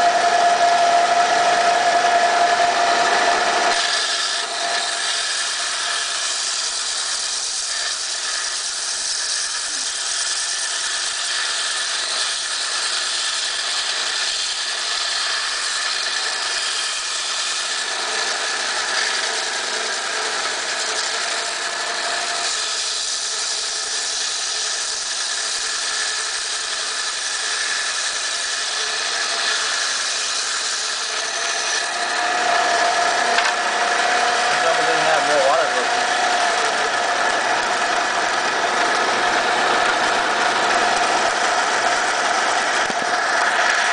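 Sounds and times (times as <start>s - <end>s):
band saw cutting coral: 0.0s - 43.9s.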